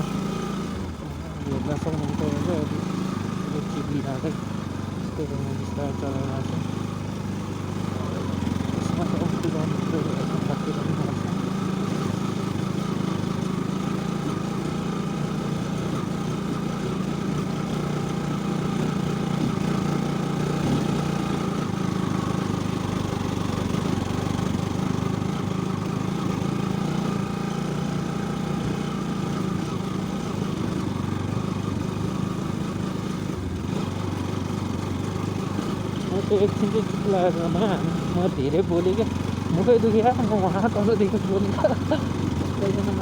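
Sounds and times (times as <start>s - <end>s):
motorcycle engine running steadily: 0.0s - 43.0s.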